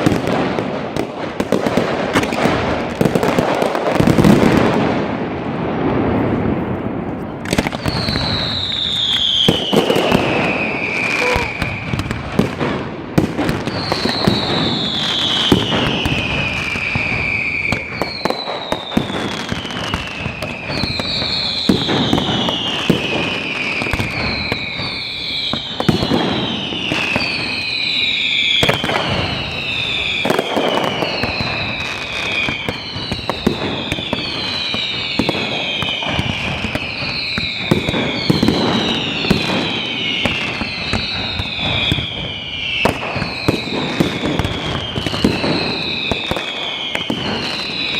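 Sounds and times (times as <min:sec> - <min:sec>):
fireworks bangs and crackles: 0:00.0 - 0:47.9
whistling fireworks shrieking: 0:00.0 - 0:47.9.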